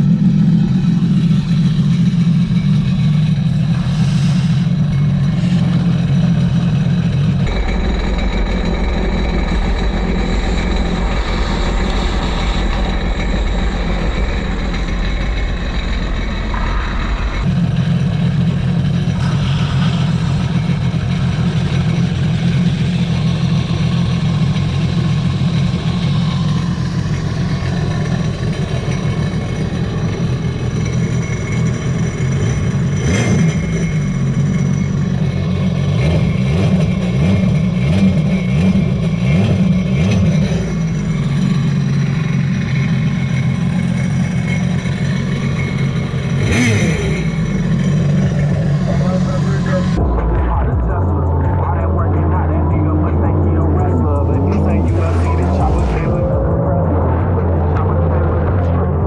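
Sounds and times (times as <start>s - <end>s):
jet ski engine running: 0.0s - 59.0s.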